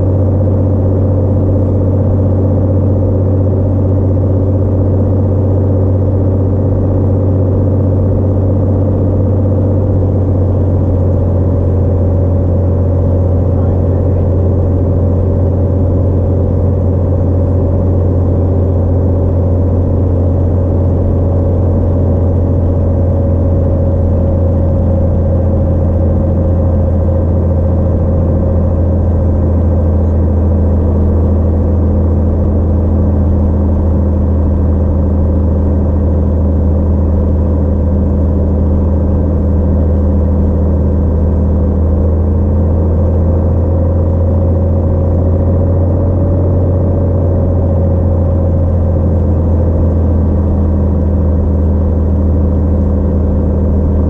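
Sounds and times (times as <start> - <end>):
propeller airplane engine drone: 0.0 - 54.0.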